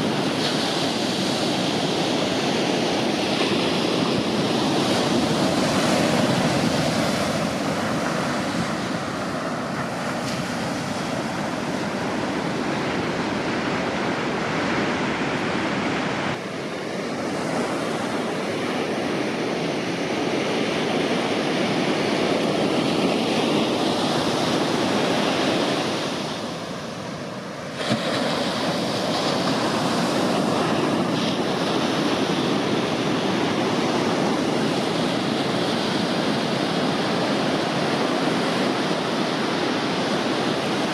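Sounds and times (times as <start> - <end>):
waves breaking on a beach: 0.0 - 40.9.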